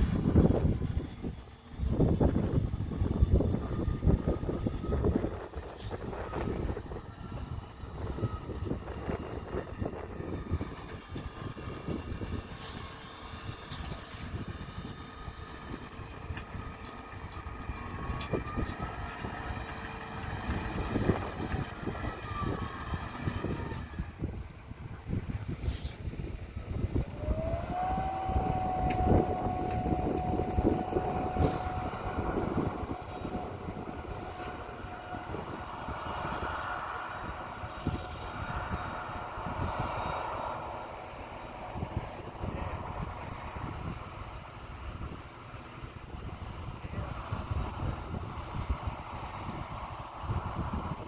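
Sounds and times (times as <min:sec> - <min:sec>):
harvest machinery engine whine: 0:00.0 - 0:51.0.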